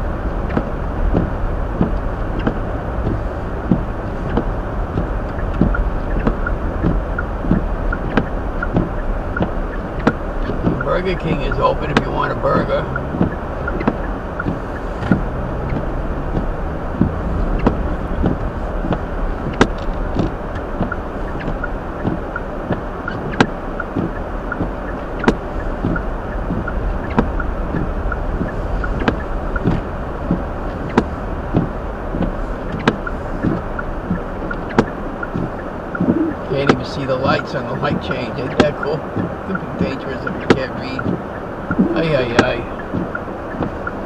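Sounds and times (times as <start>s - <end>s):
road and tyre noise in car: 0.0s - 44.0s
sharp ticks: 1.9s - 44.0s.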